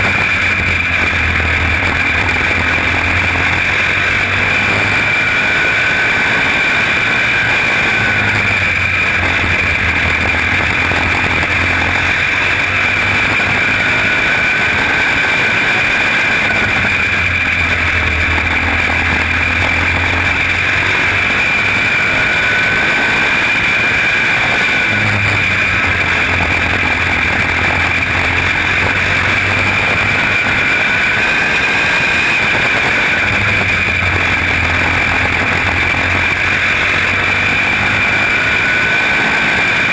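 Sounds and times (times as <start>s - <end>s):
small race car engine: 0.0s - 39.9s.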